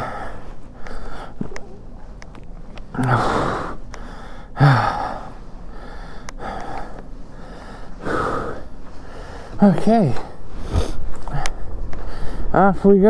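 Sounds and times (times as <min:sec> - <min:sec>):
man gasping breaths: 0:00.0 - 0:01.5, 0:02.9 - 0:12.6.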